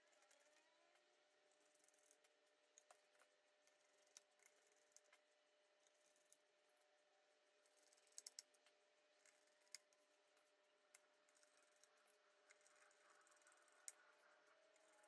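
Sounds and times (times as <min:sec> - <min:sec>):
small screws and parts clicking: 0:01.6 - 0:06.5, 0:07.6 - 0:15.0.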